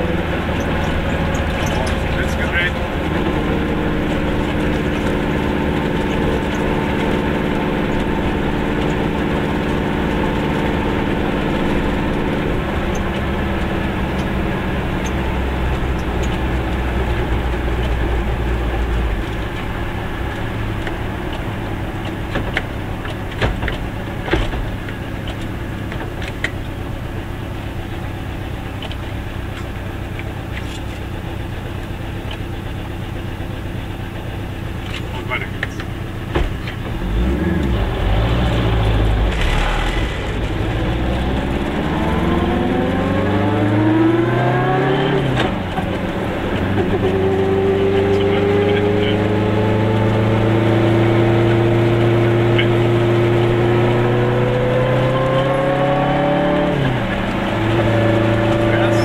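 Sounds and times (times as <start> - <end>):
two-stroke car engine running: 0.0 - 59.0.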